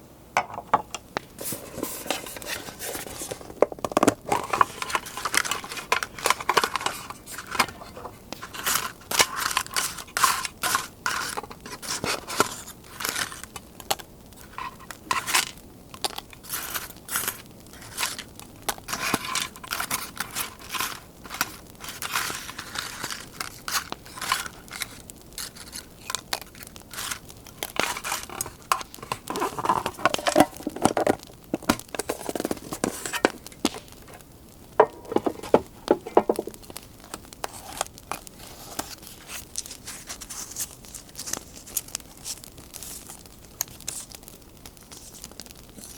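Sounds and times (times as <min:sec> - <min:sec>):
paper crinkling and scraping: 0:01.3 - 0:34.2, 0:34.8 - 0:45.9
campfire crackling: 0:03.4 - 0:45.9.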